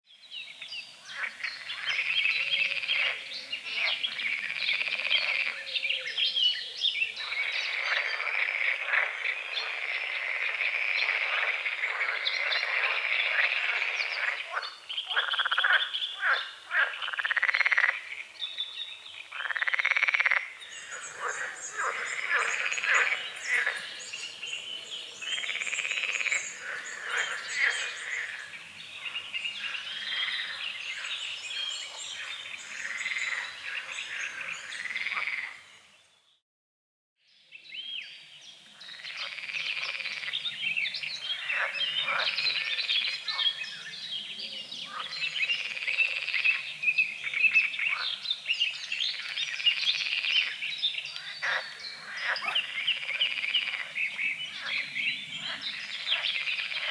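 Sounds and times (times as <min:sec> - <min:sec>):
birds singing: 0:00.1 - 0:36.4, 0:37.3 - 0:56.9
frogs croaking: 0:00.6 - 0:35.9, 0:38.6 - 0:56.9.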